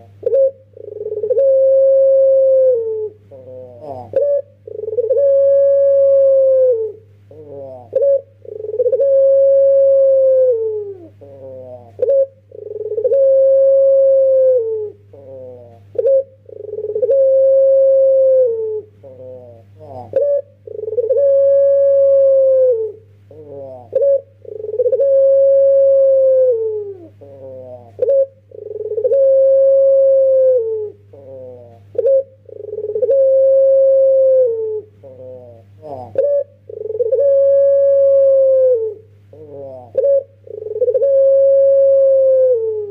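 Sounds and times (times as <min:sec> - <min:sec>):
dove cooing: 0:00.0 - 0:42.9
faint low hum: 0:00.0 - 0:42.9.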